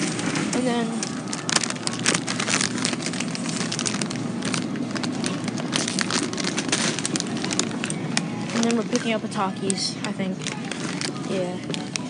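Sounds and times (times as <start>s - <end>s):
crackling handling noise: 0.0s - 12.0s
store background noise: 0.0s - 12.0s.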